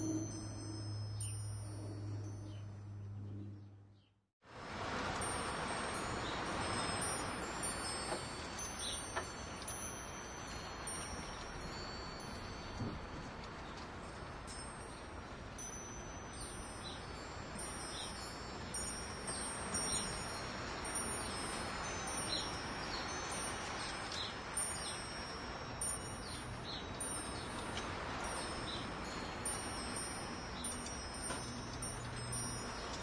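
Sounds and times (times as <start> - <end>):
wind chimes tinkling: 0.0 - 3.5, 4.8 - 33.0.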